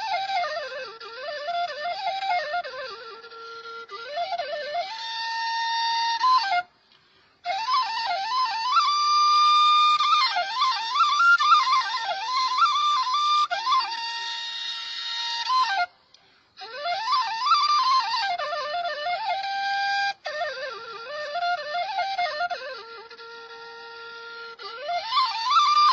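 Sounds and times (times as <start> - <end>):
solo flute-like melody: 0.0 - 25.9.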